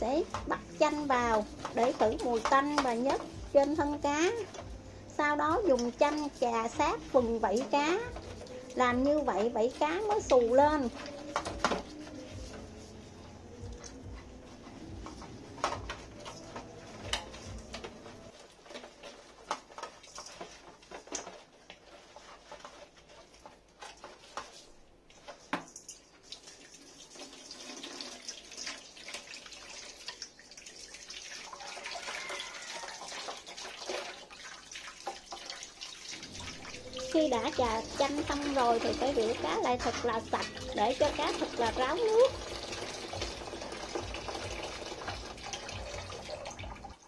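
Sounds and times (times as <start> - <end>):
tap water running into bowl: 0.0 - 22.8, 23.4 - 47.0
wet squelches of fish rubbing: 0.0 - 27.2, 29.1 - 47.0.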